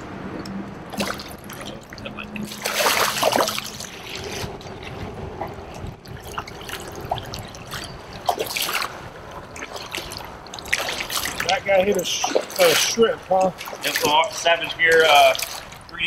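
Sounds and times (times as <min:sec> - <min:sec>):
water splashing and trickling: 0:00.0 - 0:16.0
fish thrashing at the surface: 0:00.9 - 0:15.9.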